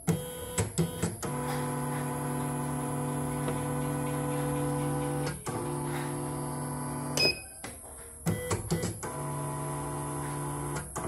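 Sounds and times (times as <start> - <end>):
embroidery machine motor hum: 0.0 - 7.2, 9.0 - 11.0.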